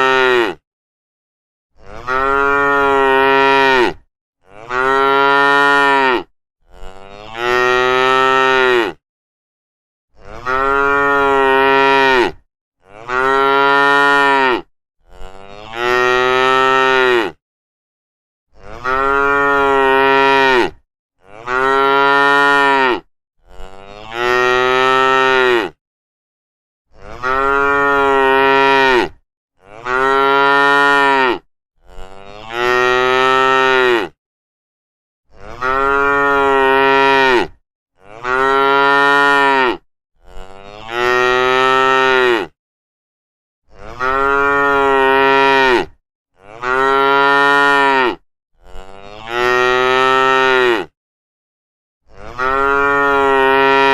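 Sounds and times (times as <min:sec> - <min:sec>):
cow mooing: 0:00.0 - 0:00.6, 0:01.8 - 0:09.0, 0:10.2 - 0:17.4, 0:18.6 - 0:25.8, 0:27.0 - 0:34.2, 0:35.3 - 0:42.6, 0:43.7 - 0:51.0, 0:52.1 - 0:53.9.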